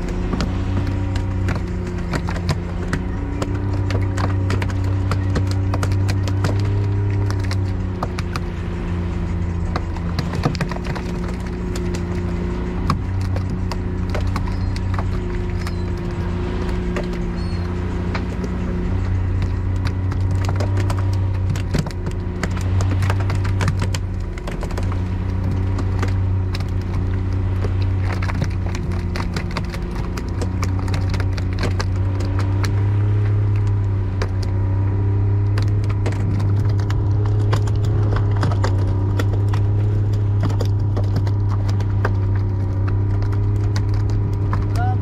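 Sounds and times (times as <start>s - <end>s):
sharp knocks and clatters: 0.0s - 44.8s
boat motor humming: 0.0s - 45.0s.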